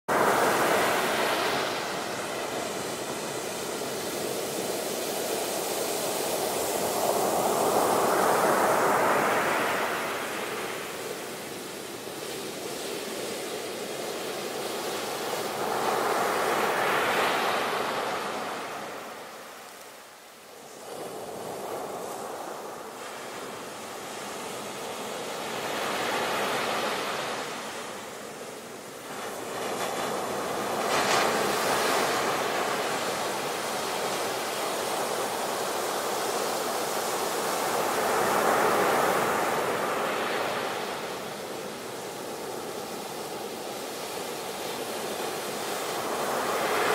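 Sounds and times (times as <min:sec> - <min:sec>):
waves breaking on a beach: 0:00.1 - 0:46.9.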